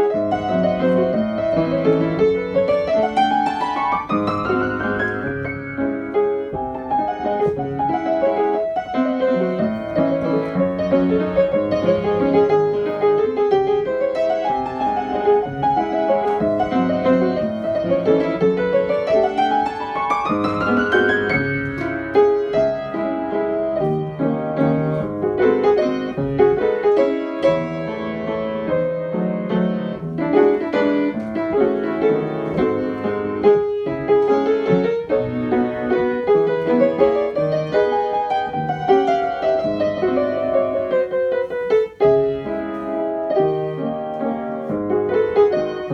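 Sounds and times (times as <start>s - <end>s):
piano music: 0.0s - 45.9s.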